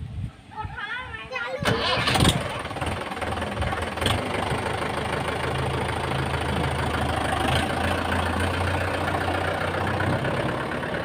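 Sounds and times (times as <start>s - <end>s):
tractor diesel engine running: 1.6s - 11.0s.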